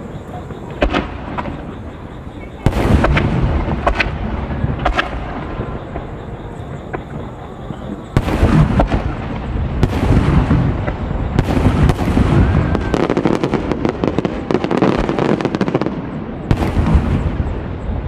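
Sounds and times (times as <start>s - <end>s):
fireworks bangs and booms: 0.0s - 18.0s
fireworks crackling: 0.0s - 18.0s.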